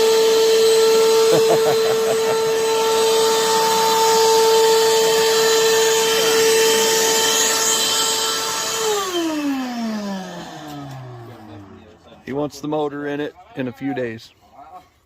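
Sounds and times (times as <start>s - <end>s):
power tool motor whining: 0.0s - 12.1s.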